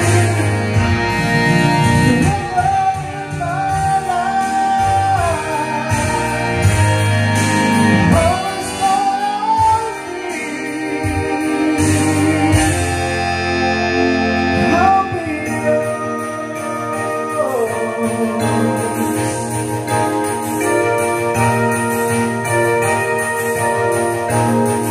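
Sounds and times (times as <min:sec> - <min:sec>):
pop ballad karaoke accompaniment: 0:00.0 - 0:24.9
sliding lead melody: 0:00.0 - 0:24.9.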